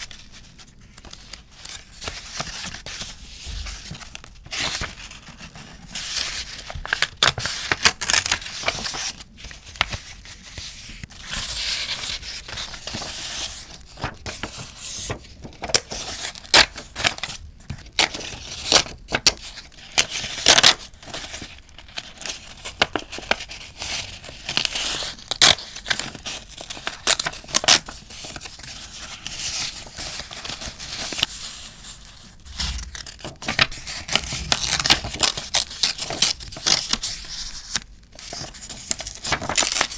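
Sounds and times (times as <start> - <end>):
paper tearing and crinkling: 0.9 - 10.2, 11.2 - 39.9.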